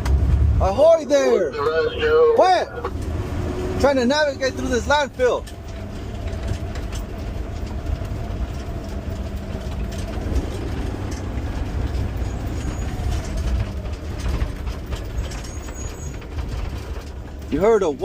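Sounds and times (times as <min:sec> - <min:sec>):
truck engine rumble: 0:00.0 - 0:18.0
truck knocking and rattling: 0:02.8 - 0:18.0.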